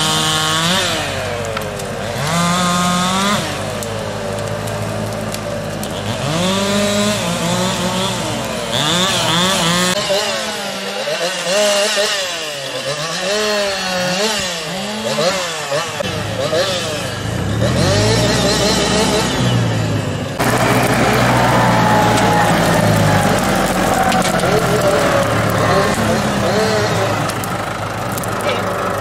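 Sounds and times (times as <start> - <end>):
chainsaw revving: 0.0 - 29.0.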